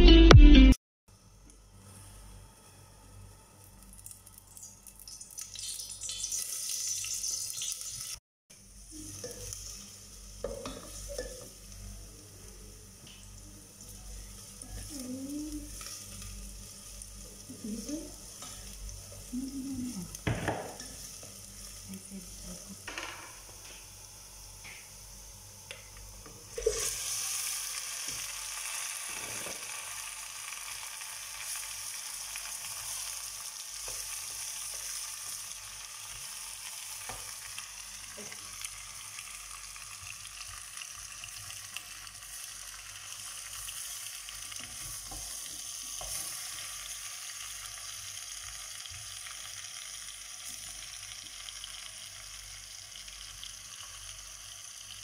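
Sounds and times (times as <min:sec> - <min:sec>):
food frying in hot oil: 0:01.9 - 0:55.0.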